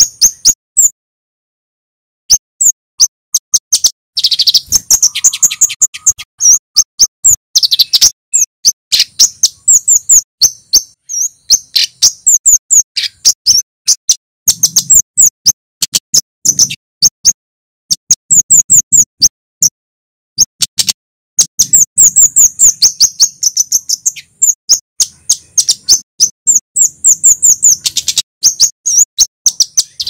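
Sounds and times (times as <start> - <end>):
bird calling high chips: 0.0 - 1.0, 2.3 - 19.8, 20.4 - 30.0.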